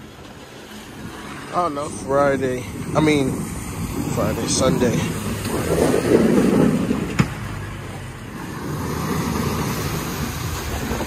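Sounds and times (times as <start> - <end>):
snow rushing off plow blade: 0.0 - 11.0.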